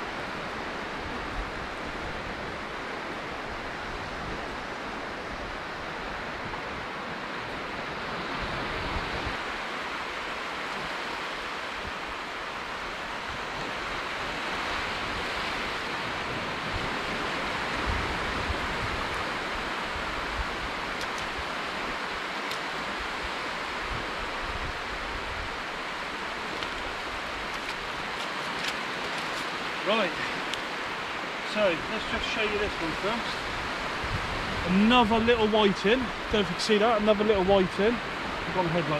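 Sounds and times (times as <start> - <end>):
surf breaking on beach: 0.0 - 38.9
wind buffeting microphone: 0.0 - 38.9.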